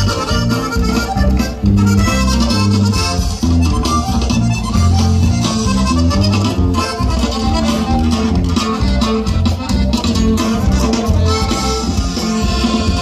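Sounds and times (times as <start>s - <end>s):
button accordion melody: 0.0s - 13.0s
pulsing bass line: 0.0s - 13.0s
strummed guitar: 0.0s - 13.0s.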